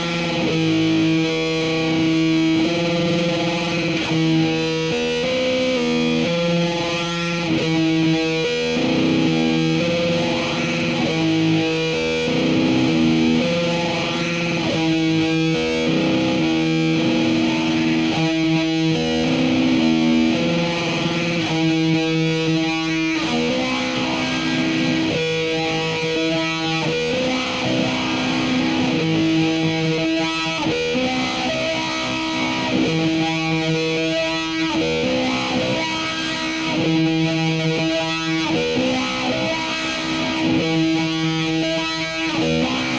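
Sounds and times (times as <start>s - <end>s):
electric guitar with reverb: 0.0s - 42.9s.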